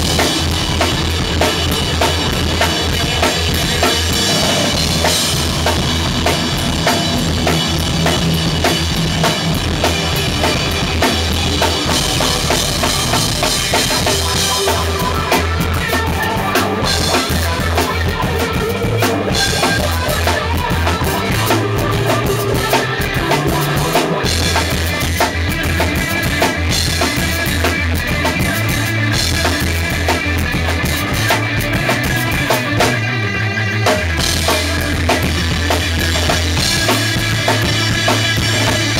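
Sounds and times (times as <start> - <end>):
drum kit played hard: 0.0 - 38.9
electric guitar chords: 0.0 - 38.9.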